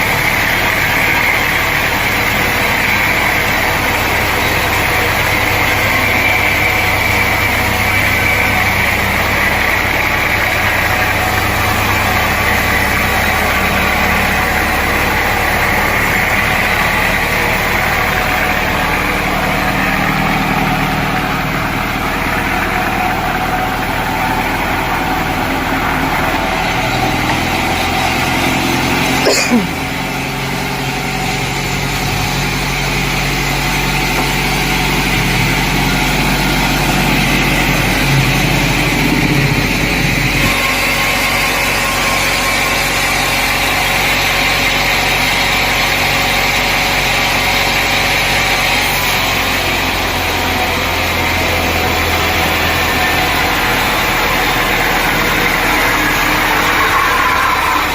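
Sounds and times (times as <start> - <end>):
sawmill machinery droning: 0.0 - 57.9.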